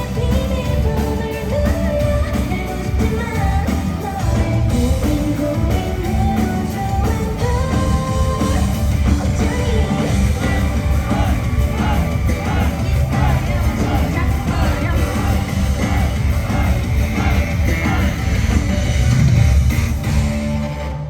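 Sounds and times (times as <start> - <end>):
voices yelling and singing along: 0.0 - 19.5
live rock band playing: 0.0 - 21.0.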